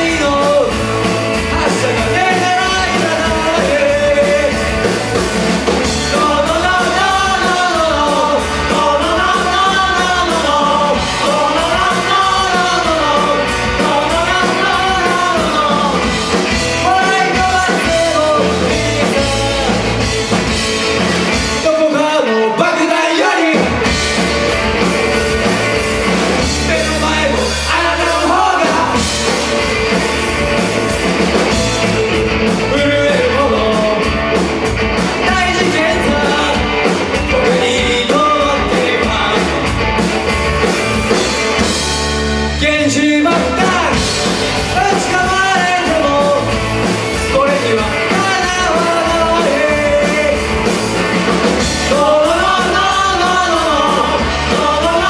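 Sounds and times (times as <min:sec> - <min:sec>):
man singing lead vocal: 0:00.0 - 0:20.6, 0:21.2 - 0:24.2, 0:26.1 - 0:30.0, 0:31.3 - 0:40.0, 0:42.4 - 0:55.0
electric bass: 0:00.0 - 0:22.1, 0:23.4 - 0:55.0
drums: 0:00.0 - 0:55.0
electric guitars: 0:00.0 - 0:55.0.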